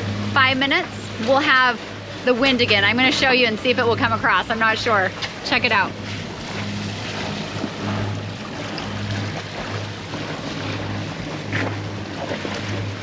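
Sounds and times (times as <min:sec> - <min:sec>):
low pulsing hum: 0:00.0 - 0:13.0
water noise: 0:00.0 - 0:13.0
wind on microphone: 0:00.0 - 0:13.0.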